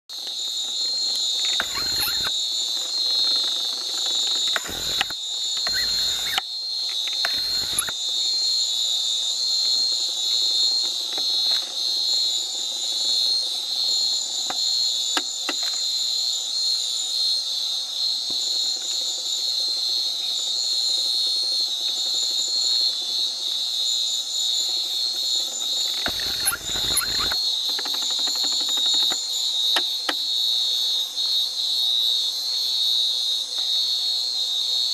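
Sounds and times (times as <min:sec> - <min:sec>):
higher pulsing insect call: 0:00.1 - 0:34.9
insects droning: 0:00.1 - 0:34.9.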